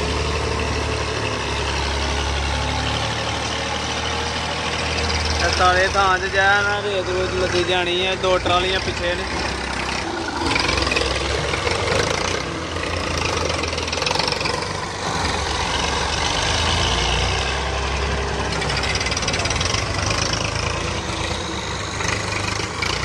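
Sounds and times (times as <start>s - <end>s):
tractor diesel engine rumbling: 0.0s - 23.0s.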